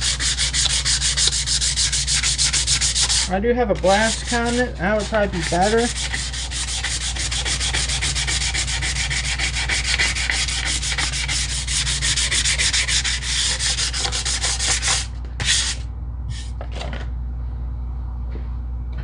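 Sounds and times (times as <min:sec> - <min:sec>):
sandpaper rubbing on metal: 0:00.0 - 0:16.5
steady low hum: 0:00.0 - 0:19.0.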